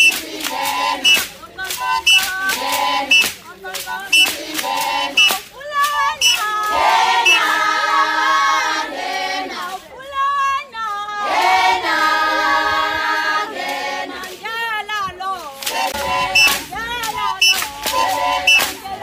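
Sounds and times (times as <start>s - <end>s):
group singing in chorus: 0.0s - 5.5s, 6.2s - 9.9s, 11.1s - 14.6s, 15.4s - 19.0s.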